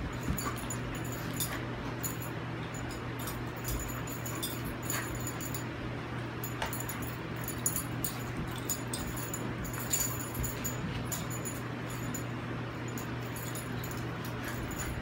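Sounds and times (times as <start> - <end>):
dogs scuffling on a rug: 0.0 - 5.6, 6.4 - 15.0
collar tags clinking: 0.0 - 5.7, 6.4 - 15.0
low hum: 0.0 - 15.0.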